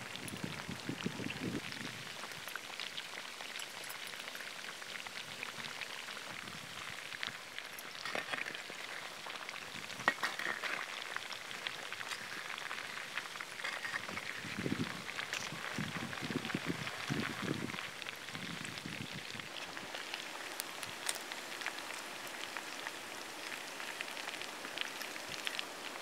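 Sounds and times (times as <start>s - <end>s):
chicken deep-frying in hot oil: 0.0s - 26.0s.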